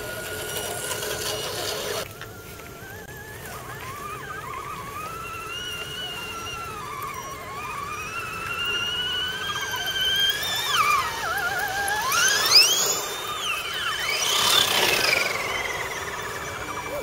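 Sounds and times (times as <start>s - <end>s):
toy truck electric motors whining: 0.0s - 17.0s.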